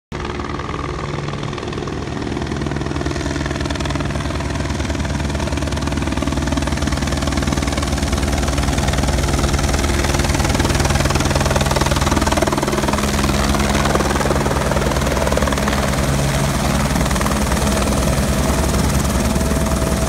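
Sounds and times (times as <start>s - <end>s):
helicopter rotor beat: 0.1s - 20.0s
helicopter engine: 0.2s - 20.0s.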